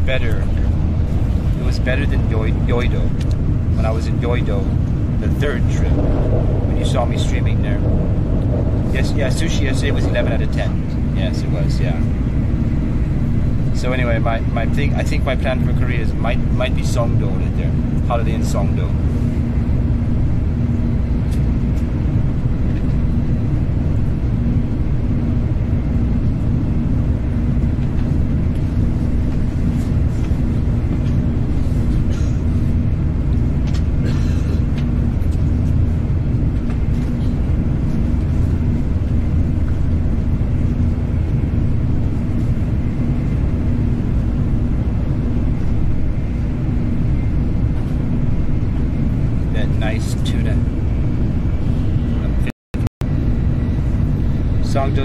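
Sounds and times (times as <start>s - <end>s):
steady hum: 0.0s - 55.0s
train rumble inside cabin: 0.0s - 55.0s.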